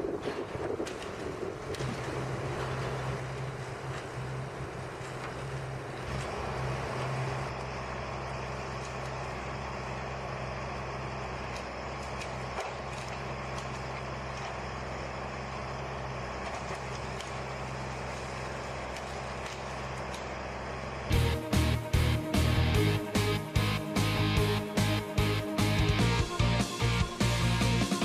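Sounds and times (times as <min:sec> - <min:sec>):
heavy engine running steadily: 0:00.0 - 0:28.0.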